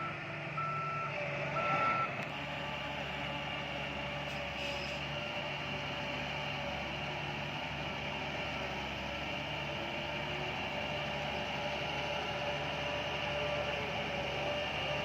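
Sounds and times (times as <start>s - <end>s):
heavy machinery engine drone: 0.0s - 15.0s.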